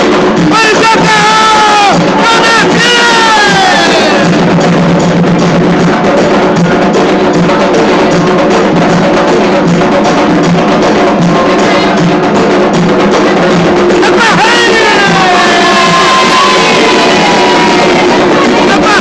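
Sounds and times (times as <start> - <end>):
hand drums fast rhythm: 0.0 - 19.0.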